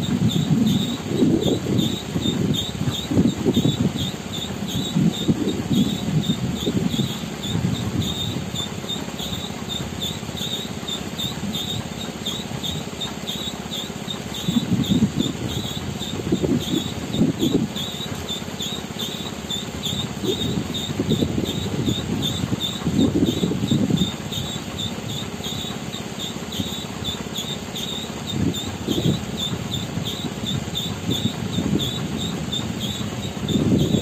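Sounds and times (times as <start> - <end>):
concrete mixer truck rumbling: 0.0 - 34.0
high chirping: 0.0 - 34.0.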